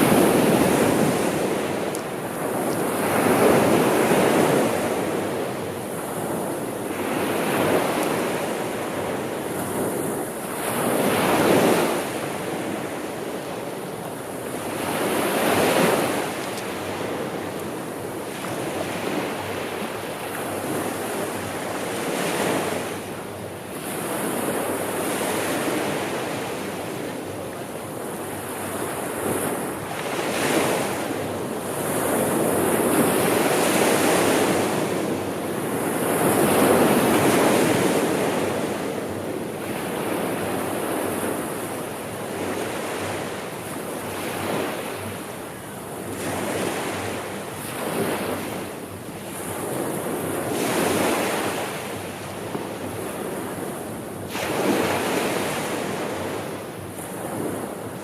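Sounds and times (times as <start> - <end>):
sea waves breaking on shore: 0.0 - 58.0
wind: 0.0 - 58.0.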